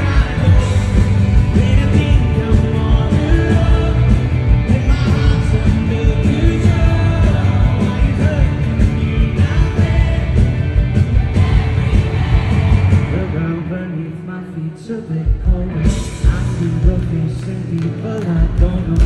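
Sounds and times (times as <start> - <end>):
man singing into microphone: 0.0 - 10.8, 12.9 - 19.0
electric guitar: 0.0 - 19.0
live pop-rock band playing: 0.0 - 19.0.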